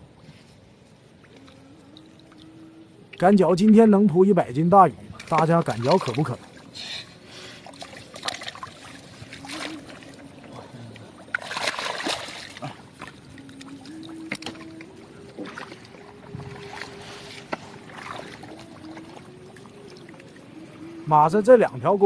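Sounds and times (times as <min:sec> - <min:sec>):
faint steady hum: 0:00.0 - 0:22.0
water splashing and sloshing: 0:00.0 - 0:22.0.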